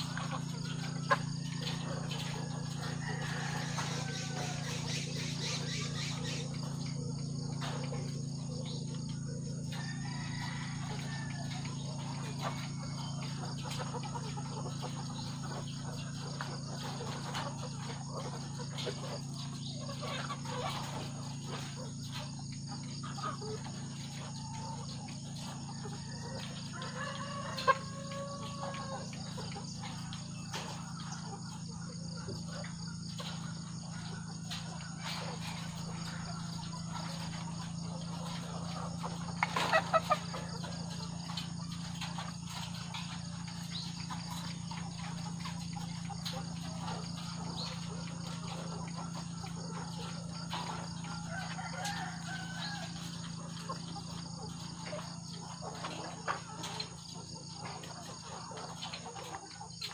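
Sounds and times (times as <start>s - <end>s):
chickens clucking and calling: 0.0s - 59.9s
steady low hum: 0.0s - 59.9s.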